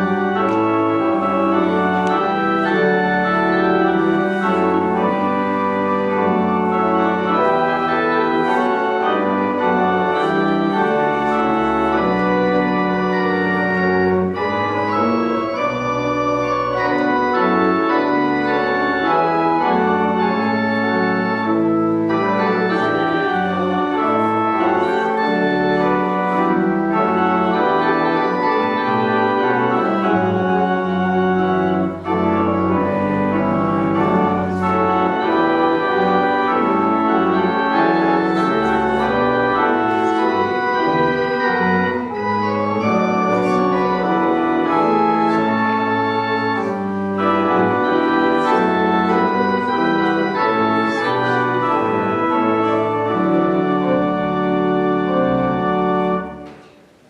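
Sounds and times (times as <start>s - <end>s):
church organ playing chords: 0.0s - 57.0s.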